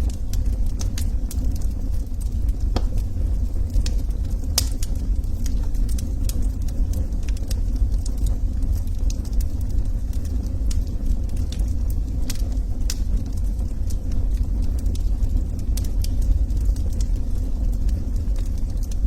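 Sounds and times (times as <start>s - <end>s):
log fire crackling: 0.0s - 19.0s
steady low rumble: 0.0s - 19.0s.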